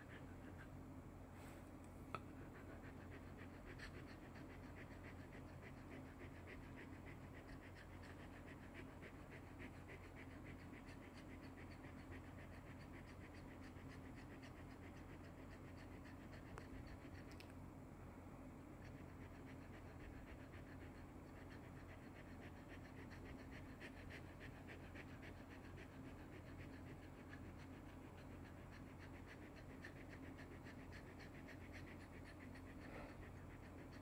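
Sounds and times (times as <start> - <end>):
dog panting softly: 0.0 - 34.0.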